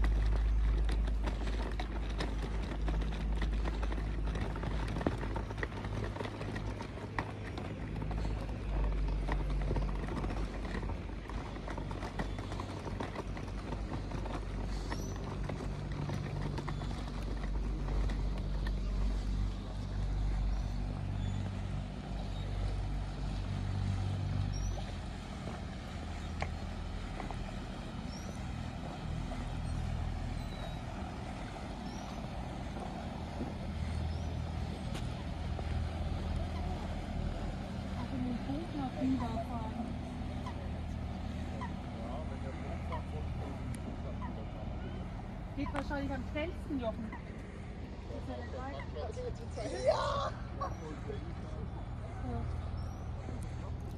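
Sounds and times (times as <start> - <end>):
diesel engine drone: 0.0 - 53.9.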